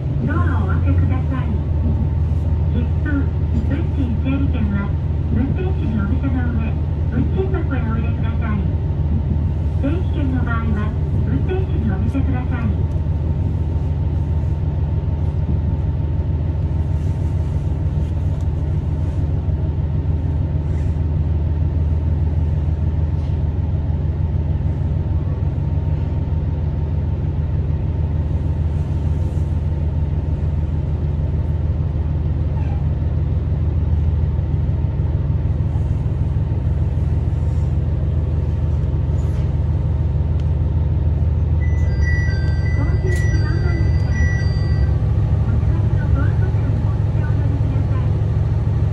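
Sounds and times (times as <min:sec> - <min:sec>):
diesel railcar droning: 0:00.0 - 0:48.9.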